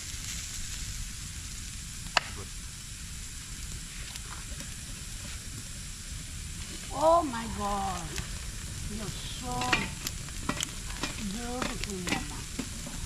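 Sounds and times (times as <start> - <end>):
chicken sizzling over fire: 0.0 - 13.0
faint fire crackles: 0.0 - 13.0
fire pop: 0.0 - 13.0.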